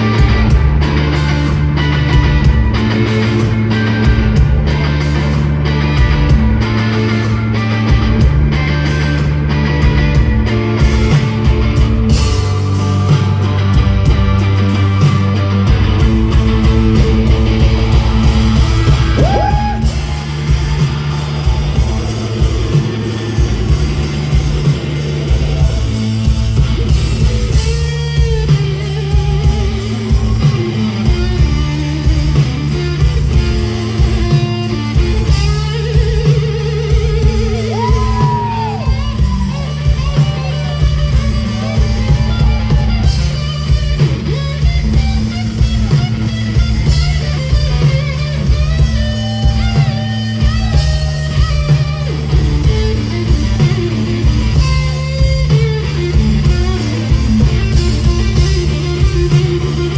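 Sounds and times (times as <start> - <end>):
bass line: 0.0 - 59.9
drums: 0.0 - 59.9
electric guitar lead line: 0.0 - 59.9.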